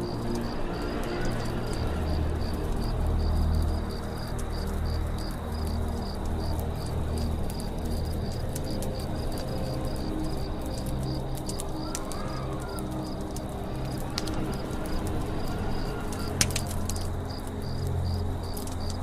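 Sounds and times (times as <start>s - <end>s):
campfire crackling and popping: 0.0s - 19.0s
crickets chirping: 0.0s - 19.0s.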